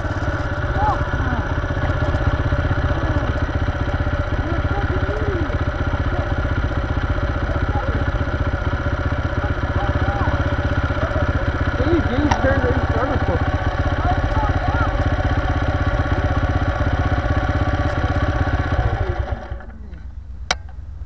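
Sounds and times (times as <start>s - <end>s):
dirt bike engine idling: 0.0s - 21.0s.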